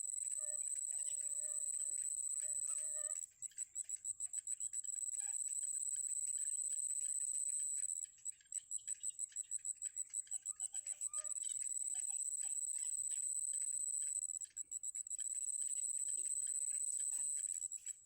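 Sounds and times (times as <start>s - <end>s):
faint chirps: 0.0s - 18.0s
insect trilling: 0.0s - 18.0s.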